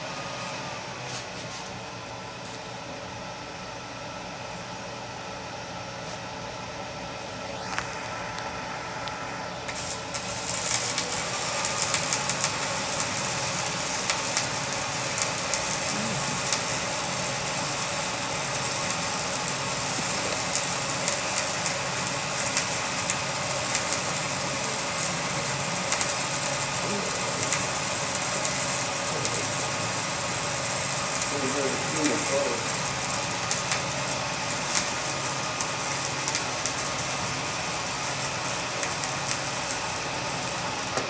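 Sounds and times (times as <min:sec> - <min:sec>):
welding arc crackling hiss: 0:00.0 - 0:03.3, 0:07.1 - 0:41.0
welding machine hum: 0:00.0 - 0:41.0.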